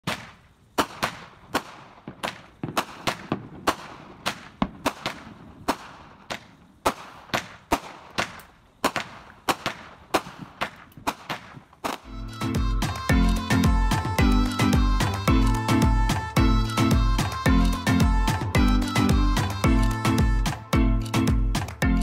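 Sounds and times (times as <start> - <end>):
fireworks banging: 0.0 - 22.0.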